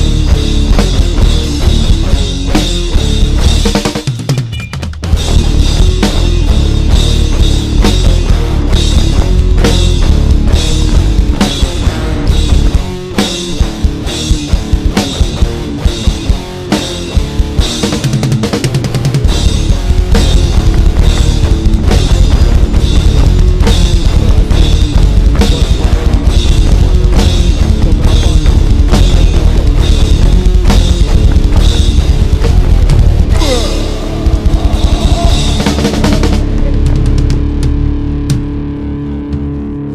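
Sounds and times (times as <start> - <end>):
pounding drums: 0.0 - 38.4
distorted guitar: 0.0 - 39.9
punk band playing: 0.0 - 39.9.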